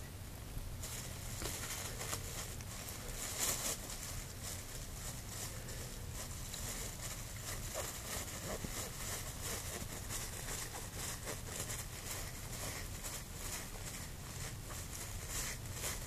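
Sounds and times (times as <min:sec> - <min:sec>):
cat licking plastic bag: 0:00.8 - 0:16.0
plastic bag crinkling: 0:00.8 - 0:16.0.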